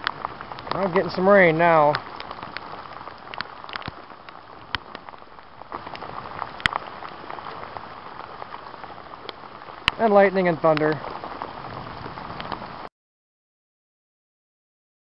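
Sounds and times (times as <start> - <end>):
rain hissing on a lake: 0.0 - 12.9.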